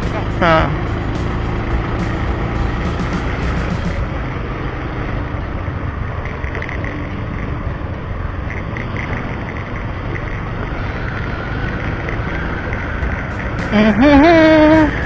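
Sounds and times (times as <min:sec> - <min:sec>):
motorbike engine and tyre noise: 0:00.0 - 0:15.0.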